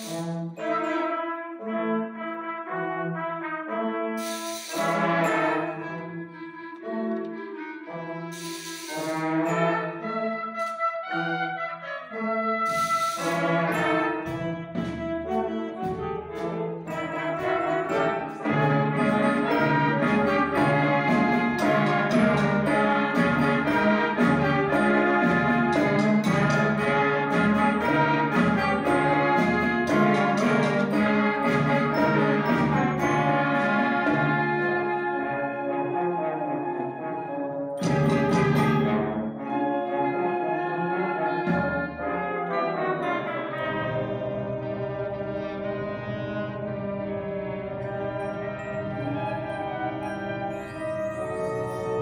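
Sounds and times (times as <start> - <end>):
wind band playing: 0.0 - 52.0.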